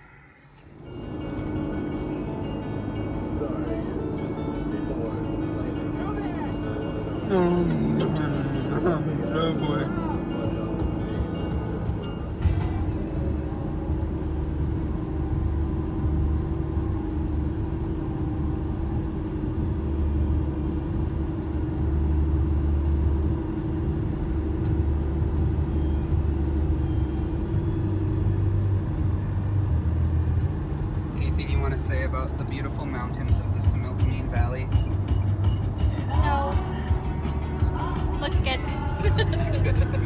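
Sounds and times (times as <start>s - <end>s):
car road noise rumble: 0.0s - 40.0s.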